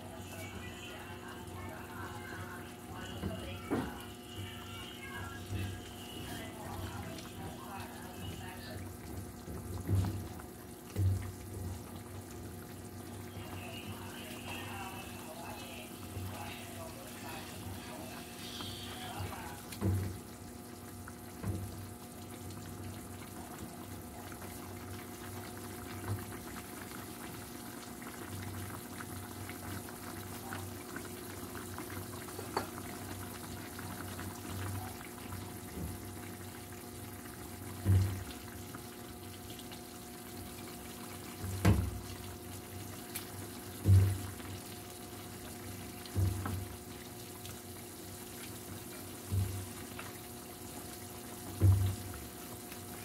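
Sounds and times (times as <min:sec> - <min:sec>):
soup bubbling: 0:00.0 - 0:53.0.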